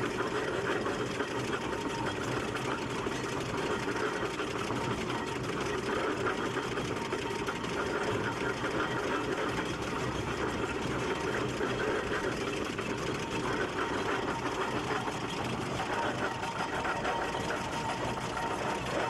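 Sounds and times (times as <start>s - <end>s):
steam roller engine clattering: 0.0s - 19.0s.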